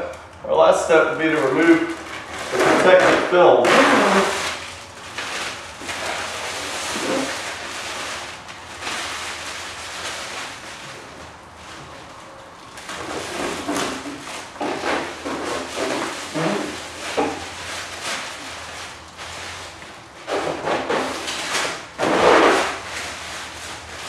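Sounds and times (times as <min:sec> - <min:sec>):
plastic film crackling: 0:00.9 - 0:20.4, 0:21.0 - 0:24.0.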